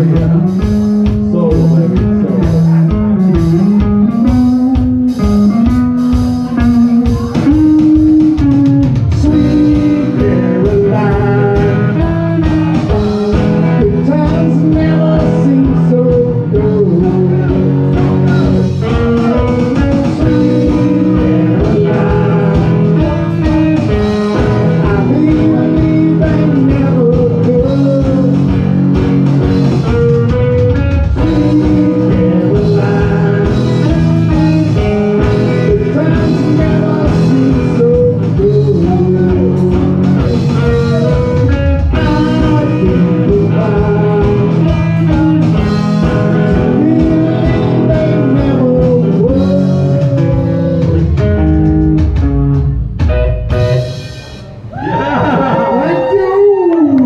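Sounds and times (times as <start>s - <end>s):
steady drum beat: 0.0s - 56.7s
bass guitar: 0.0s - 57.0s
electric guitar: 0.0s - 57.0s.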